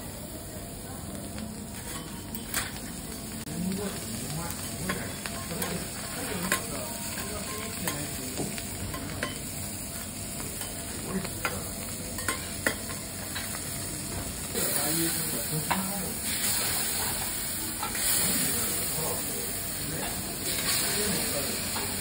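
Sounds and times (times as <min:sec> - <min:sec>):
vegetables sizzling on a griddle: 0:00.0 - 0:22.0.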